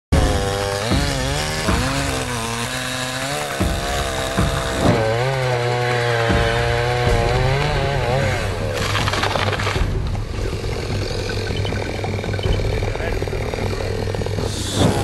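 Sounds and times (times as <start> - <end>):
chainsaw cutting wood: 0.2 - 15.0.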